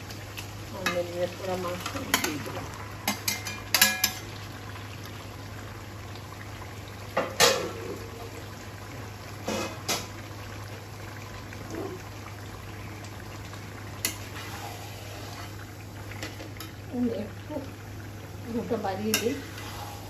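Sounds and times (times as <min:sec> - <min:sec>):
meat sizzling and bubbling: 0:00.0 - 0:20.0.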